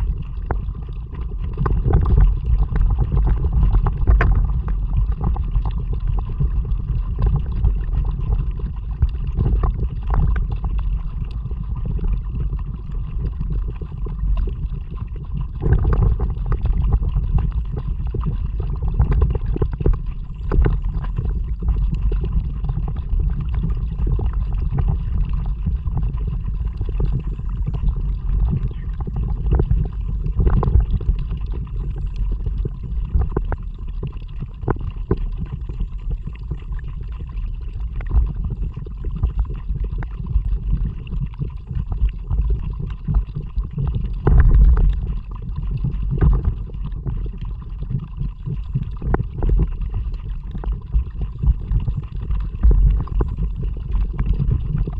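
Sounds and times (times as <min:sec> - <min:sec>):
low rumbling water: 0:00.0 - 0:54.9
wind noise on microphone: 0:00.0 - 0:54.9.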